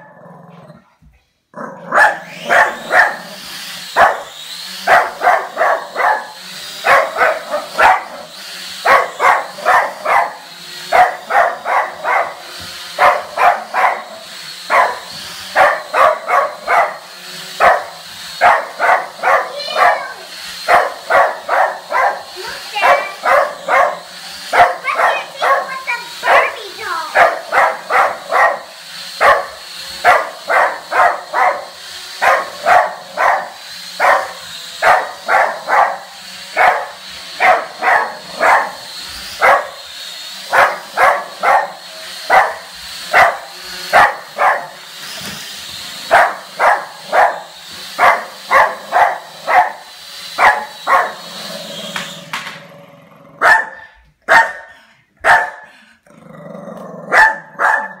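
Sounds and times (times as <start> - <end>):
small dog barking: 1.9 - 3.3, 4.0 - 4.3, 4.9 - 12.4, 13.0 - 17.0, 17.6 - 38.8, 39.4 - 39.8, 40.5 - 44.8, 46.1 - 49.8, 50.4 - 51.2, 53.4 - 55.7, 57.1 - 58.0
drone propellers whining: 2.2 - 53.0.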